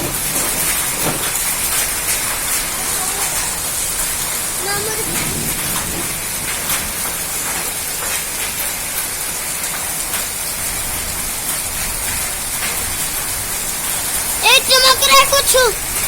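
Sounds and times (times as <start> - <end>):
hailstones ticking: 0.0 - 16.0
heavy rain hissing: 0.0 - 16.0.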